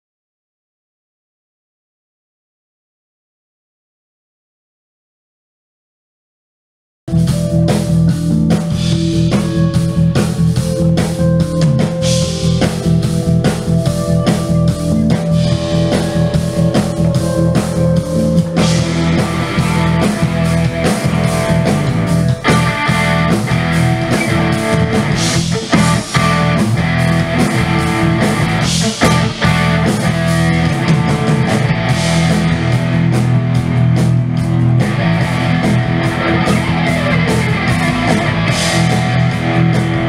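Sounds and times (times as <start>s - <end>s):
drums: 7.1s - 40.0s
electric guitars: 7.1s - 40.0s.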